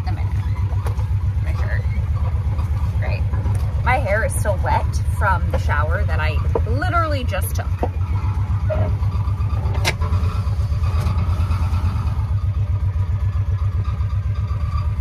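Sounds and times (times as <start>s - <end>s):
vehicle engine low pulsing: 0.0s - 15.0s.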